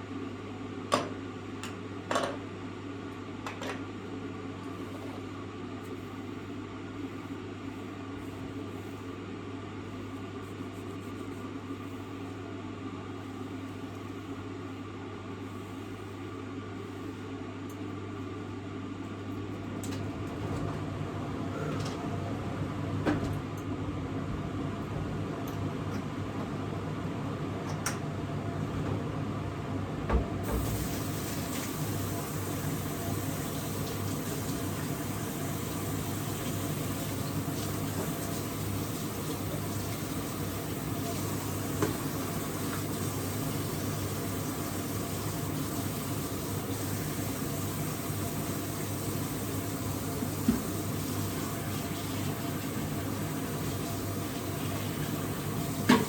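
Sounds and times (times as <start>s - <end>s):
kitchen appliance hum: 0.0s - 56.0s.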